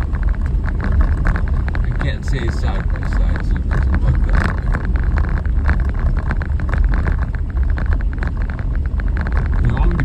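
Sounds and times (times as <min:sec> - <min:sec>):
rattles and crunches: 0:00.0 - 0:10.0
vehicle engine rumble: 0:00.0 - 0:10.0.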